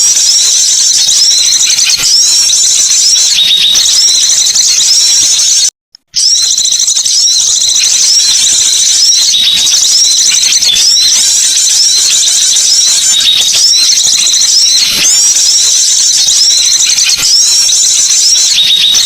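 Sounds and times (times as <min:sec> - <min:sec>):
high-pitched songbird calls: 0:00.0 - 0:19.0.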